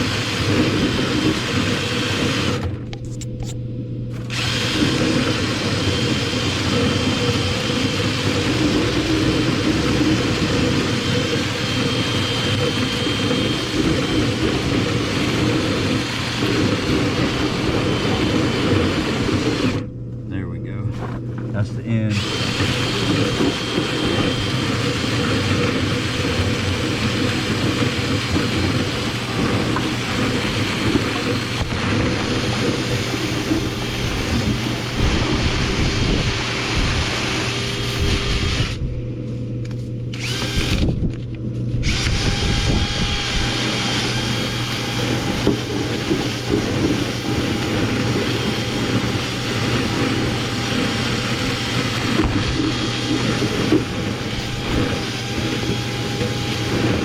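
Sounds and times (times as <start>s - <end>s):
power drill running: 0.0s - 3.5s, 4.1s - 19.9s, 21.1s - 38.9s, 40.1s - 41.2s, 41.8s - 57.0s.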